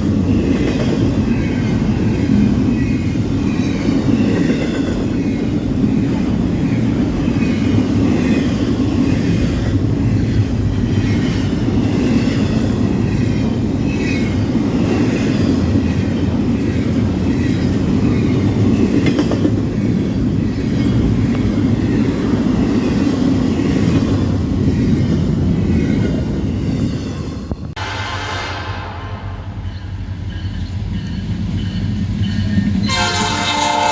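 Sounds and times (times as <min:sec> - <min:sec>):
freight train rumbling past: 0:00.0 - 0:33.9.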